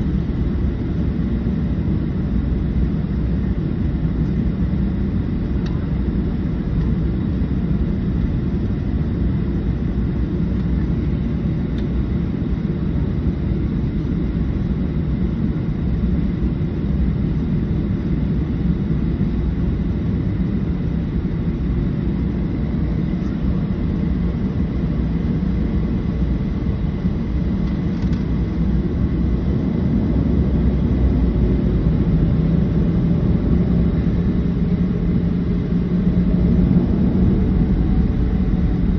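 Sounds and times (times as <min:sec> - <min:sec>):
faint steady whine: 0:00.0 - 0:38.9
jet engine rumble in cabin: 0:00.0 - 0:38.9.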